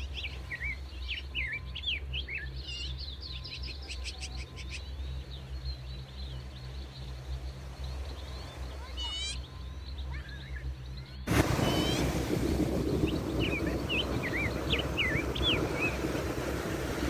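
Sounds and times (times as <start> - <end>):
songbirds chirping and whistling: 0.0 - 17.0
steady low rumble: 0.0 - 17.0.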